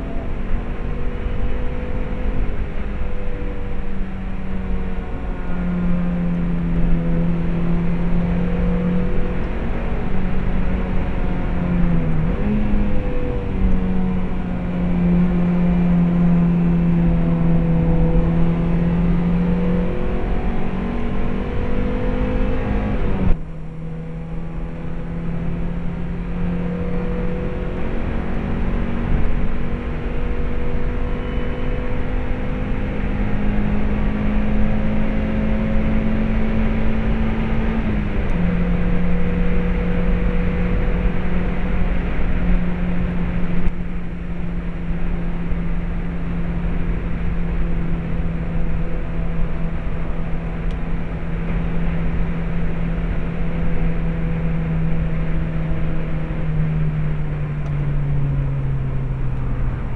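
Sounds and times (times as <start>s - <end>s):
car engine at speed: 0.0s - 59.9s.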